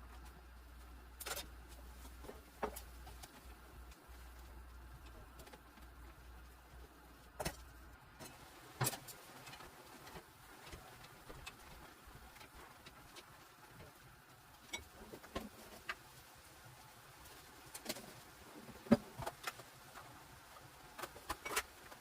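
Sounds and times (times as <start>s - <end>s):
faint steady background noise: 0.0s - 22.0s.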